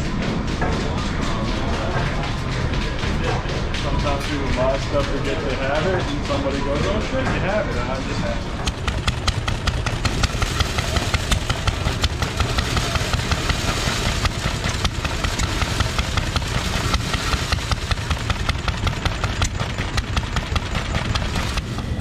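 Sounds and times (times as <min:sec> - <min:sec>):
stationary gas engine running: 0:00.0 - 0:22.0
corn sheller shelling corn: 0:00.4 - 0:22.0.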